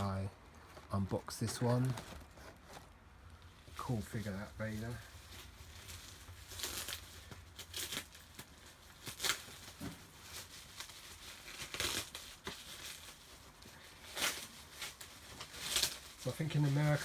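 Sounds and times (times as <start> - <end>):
packaging rustling and ripping: 0.0 - 17.0.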